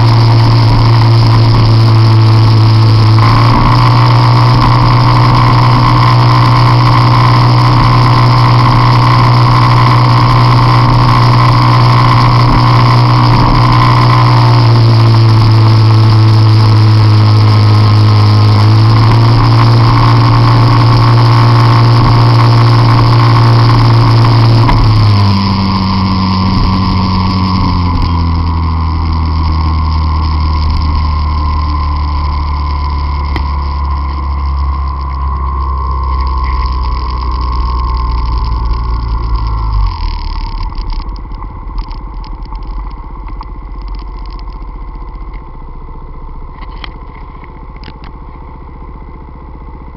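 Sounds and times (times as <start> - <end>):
scooter engine revving high: 0.0 - 49.9.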